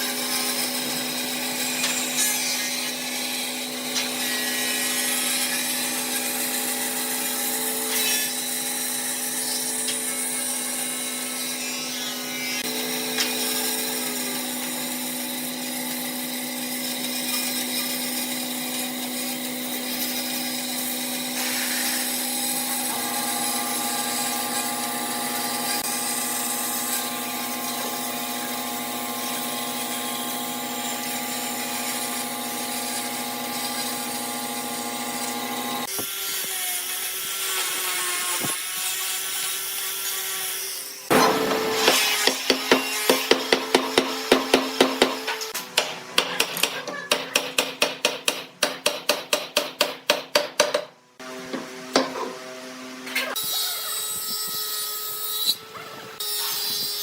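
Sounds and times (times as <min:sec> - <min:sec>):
power tool working wood: 0:00.0 - 0:47.0, 0:51.2 - 0:57.0.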